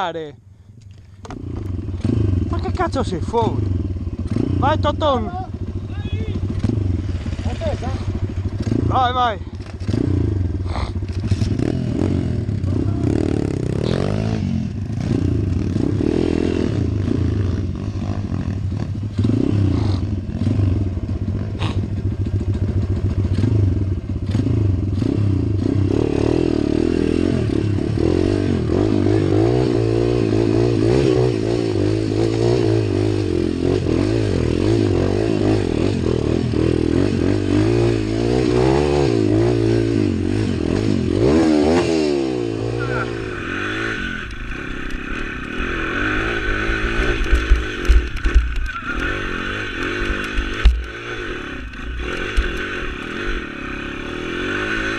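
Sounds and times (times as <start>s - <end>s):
motorbike engine revving: 1.2s - 54.9s.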